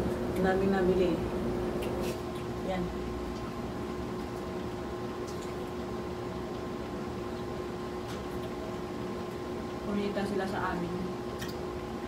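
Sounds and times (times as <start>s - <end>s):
background hum with fixed tones: 0.0s - 12.0s.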